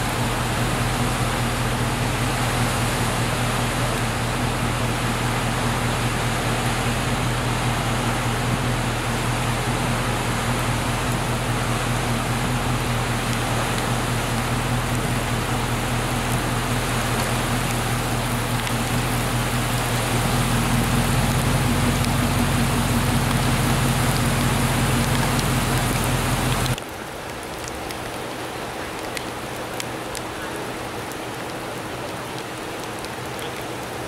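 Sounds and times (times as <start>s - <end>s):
drops ticking on wet pavement: 0.0s - 34.0s
rain and running floodwater: 0.0s - 34.0s.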